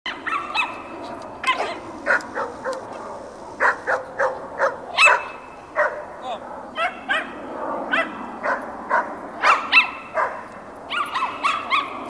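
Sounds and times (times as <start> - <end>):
dog barking: 0.2 - 0.8, 1.4 - 7.3, 7.9 - 12.0.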